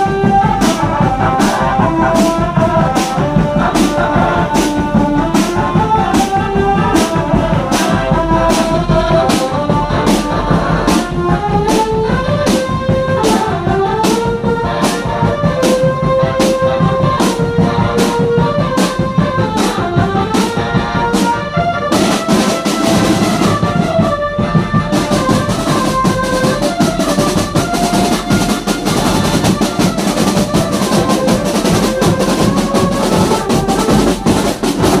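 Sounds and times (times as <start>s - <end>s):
drum beat: 0.0s - 35.0s
trumpets playing a melody: 0.0s - 35.0s.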